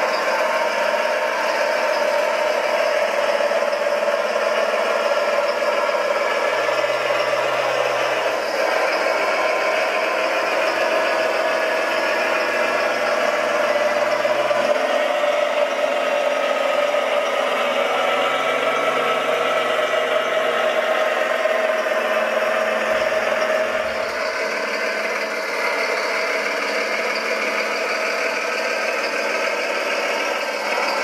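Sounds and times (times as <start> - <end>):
model excavator drone with rattle: 0.0 - 31.0.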